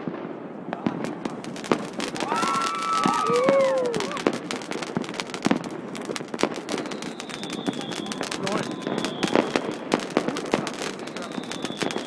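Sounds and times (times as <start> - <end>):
fireworks bangs and crackles: 0.0 - 12.0
firework whistles sliding down: 2.0 - 12.0.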